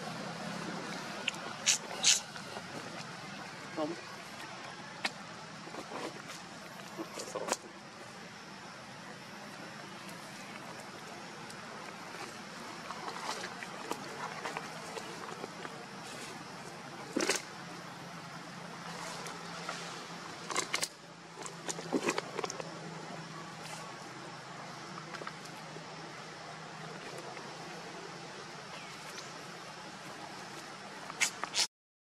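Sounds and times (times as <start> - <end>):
faint low hum: 0.0 - 31.5.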